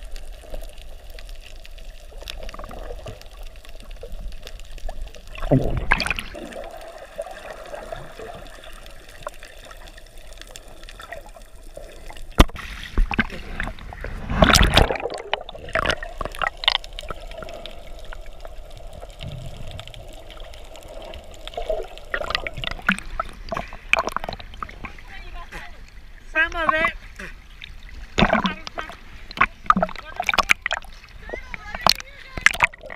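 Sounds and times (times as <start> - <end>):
rush of bubbles: 0.0 - 25.0, 27.6 - 32.9
water splashing: 0.0 - 32.9.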